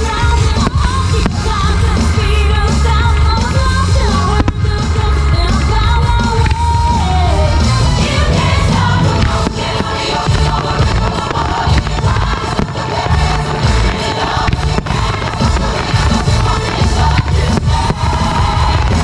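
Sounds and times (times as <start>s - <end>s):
firework bursts and booms: 0.0s - 19.0s
loud music with singing: 0.0s - 19.0s.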